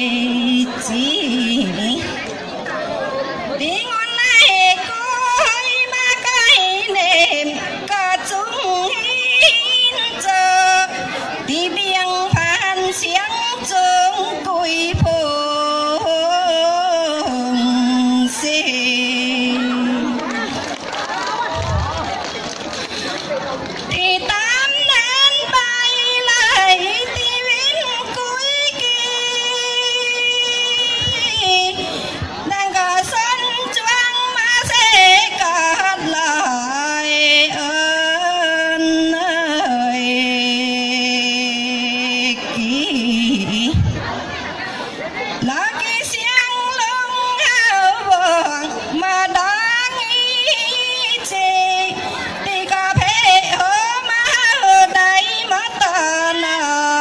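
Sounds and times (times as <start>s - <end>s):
woman singing into a microphone: 0.0s - 2.3s, 3.5s - 20.6s, 23.9s - 44.1s, 45.3s - 57.0s.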